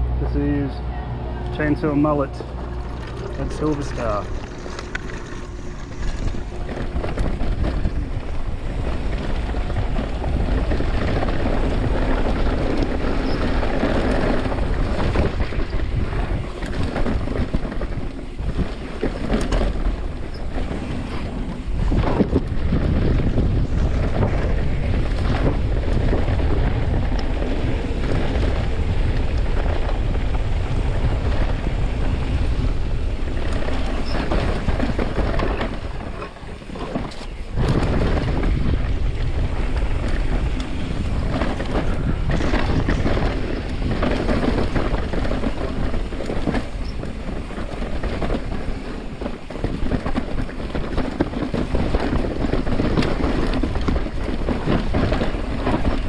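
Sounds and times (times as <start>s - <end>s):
wind buffeting microphone: 0.0s - 56.0s
tyres rolling over dirt: 1.5s - 56.0s
bike rattling and knocking: 2.0s - 56.0s.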